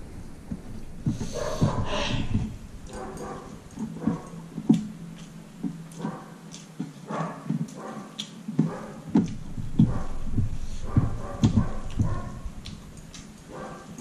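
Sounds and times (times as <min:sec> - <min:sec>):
person chewing food: 0:00.2 - 0:14.0
wet lip smacks and clicks: 0:00.5 - 0:07.0, 0:07.6 - 0:09.7, 0:10.6 - 0:13.9.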